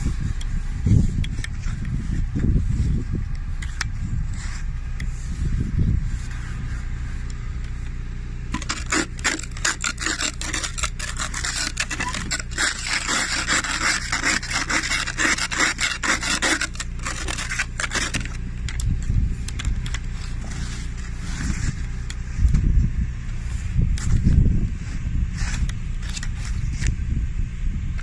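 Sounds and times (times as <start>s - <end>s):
scraper scraping ice off car: 0.0s - 22.5s, 23.3s - 27.1s
steady low hum: 0.0s - 28.0s.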